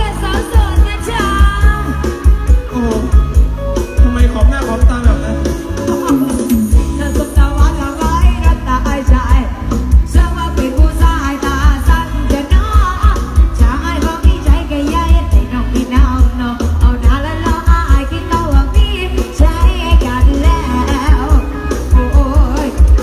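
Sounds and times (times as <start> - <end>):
song with heavy bass beat: 0.0 - 23.0.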